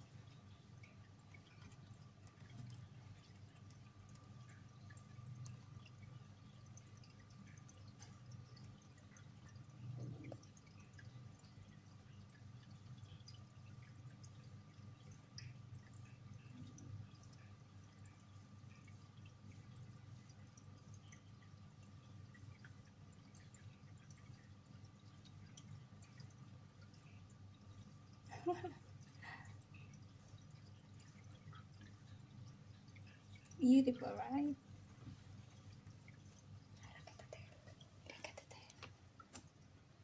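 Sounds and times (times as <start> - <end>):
aquarium water dripping and trickling: 0.0 - 40.0.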